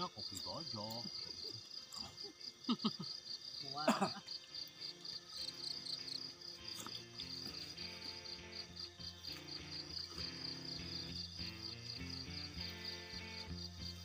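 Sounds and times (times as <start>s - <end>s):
soft background music: 0.0s - 2.6s, 3.2s - 14.0s
insect chirping: 0.0s - 14.0s.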